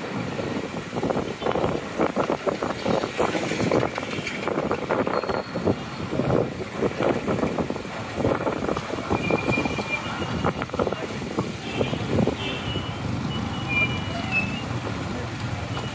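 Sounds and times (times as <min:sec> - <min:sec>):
road traffic rumble from inside car: 0:00.0 - 0:15.9.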